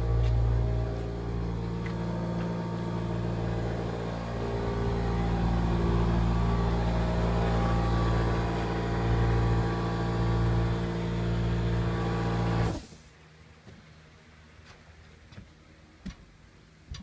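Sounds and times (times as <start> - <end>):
engine humming: 0.0 - 15.2.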